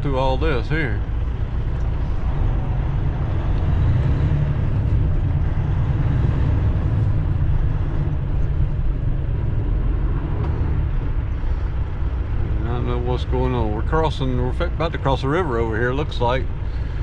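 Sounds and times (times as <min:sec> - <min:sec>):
truck engine low rumble: 0:00.0 - 0:17.0.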